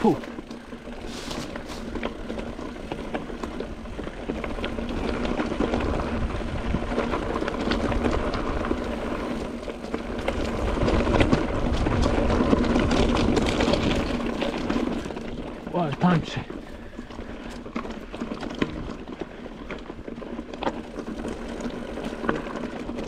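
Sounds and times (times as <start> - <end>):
bike clicking and rattling: 0.0 - 23.0
bike tyres rumbling on stones: 0.0 - 23.0.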